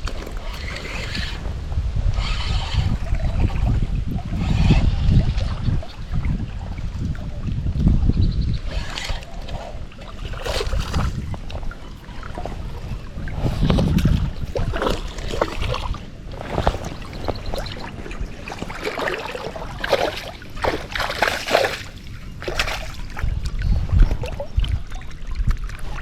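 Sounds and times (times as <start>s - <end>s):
water splashing and sloshing: 0.0s - 8.0s, 8.6s - 26.0s.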